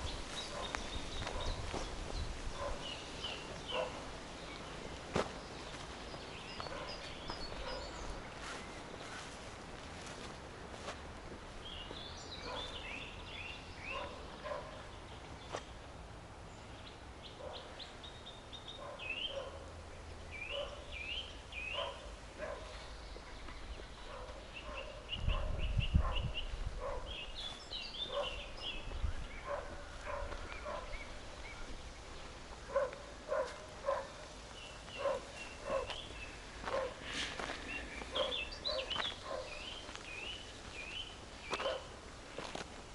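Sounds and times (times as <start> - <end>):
footsteps on forest path: 0.0 - 15.9, 21.0 - 25.2, 26.4 - 42.9
songbirds chirping: 0.0 - 42.9.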